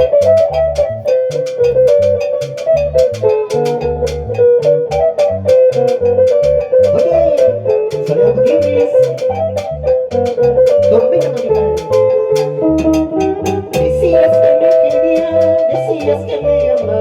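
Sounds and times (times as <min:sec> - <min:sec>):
steady percussion beat: 0:00.0 - 0:16.3
bass guitar notes: 0:00.0 - 0:17.0
guitar melody: 0:00.0 - 0:17.0.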